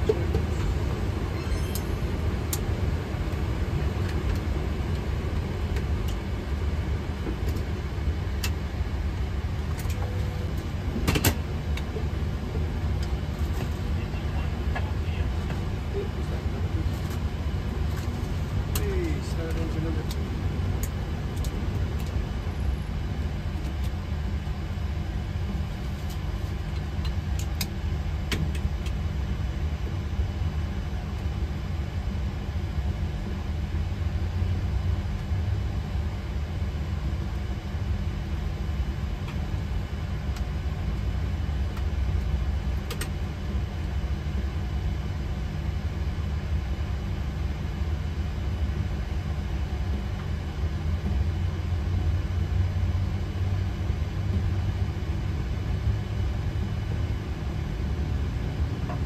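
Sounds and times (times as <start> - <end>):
airplane rumble from cockpit: 0.0 - 59.0.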